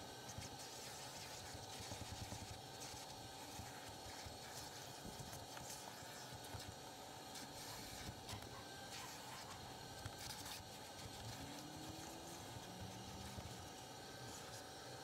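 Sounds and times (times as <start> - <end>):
vacuum cleaner hissing and whining: 0.0 - 15.0.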